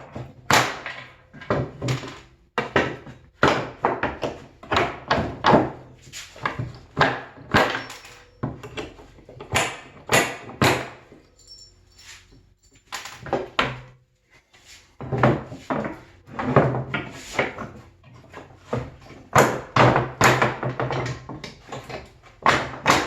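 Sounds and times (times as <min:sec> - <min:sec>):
hammer striking wooden boards: 0:00.0 - 0:11.1, 0:15.1 - 0:23.0.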